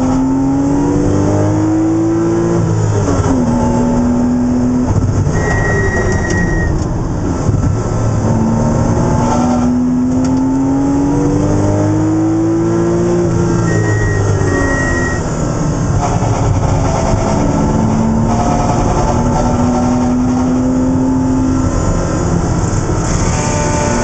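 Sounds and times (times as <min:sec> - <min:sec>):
race car engine revving: 0:00.0 - 0:05.5, 0:07.2 - 0:24.0.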